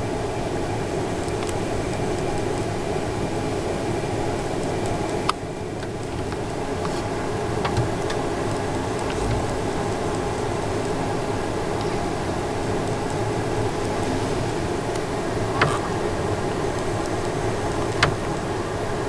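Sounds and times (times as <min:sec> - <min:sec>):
air handling hum and hiss: 0:00.0 - 0:19.0.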